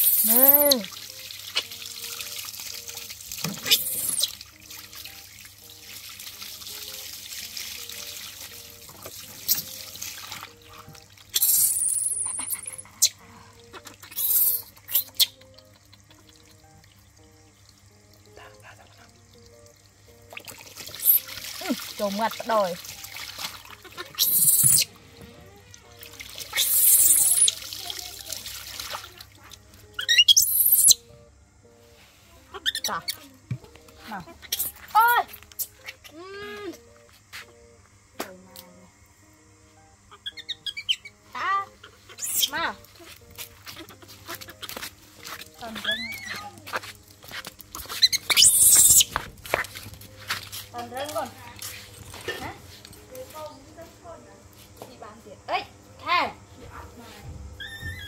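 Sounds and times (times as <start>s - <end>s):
water splashing and trickling: 0.0s - 30.9s, 32.6s - 36.8s, 41.2s - 55.2s
faint background music: 0.0s - 58.0s.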